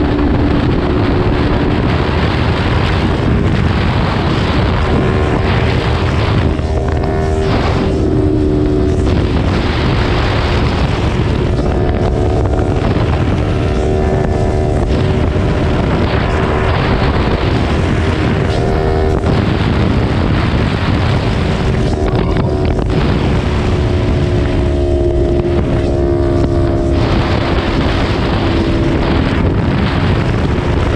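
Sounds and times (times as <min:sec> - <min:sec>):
motorcycle engine cruising: 0:00.0 - 0:30.9
wind noise on microphone: 0:00.0 - 0:30.9.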